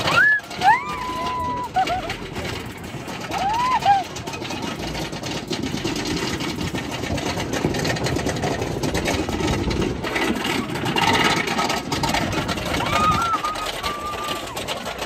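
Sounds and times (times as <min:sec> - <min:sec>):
roller coaster rattling on track: 0:00.0 - 0:15.0.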